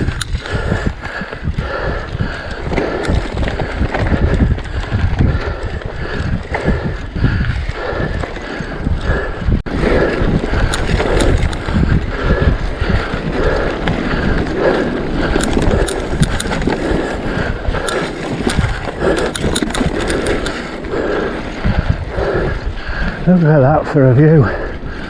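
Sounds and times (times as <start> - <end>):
bike frame rattling and clicking: 0.0 - 25.0
bike tyres rumbling on ground: 0.0 - 25.0
wind buffeting microphone: 0.0 - 25.0.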